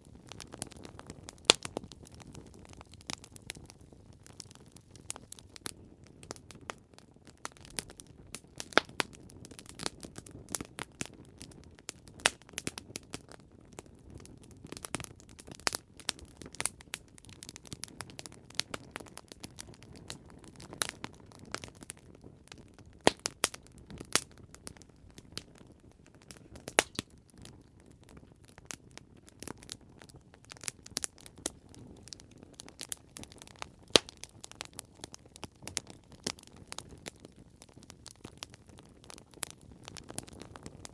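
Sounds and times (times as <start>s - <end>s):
campfire crackling and popping: 0.0s - 40.9s
low burning rumble: 0.0s - 40.9s.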